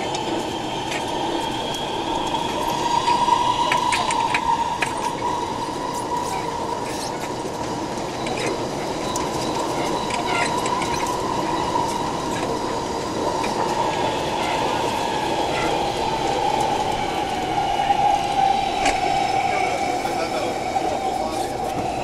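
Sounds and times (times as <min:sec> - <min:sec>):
high train whine: 0:00.0 - 0:22.0
train wheels rumbling: 0:00.0 - 0:22.0.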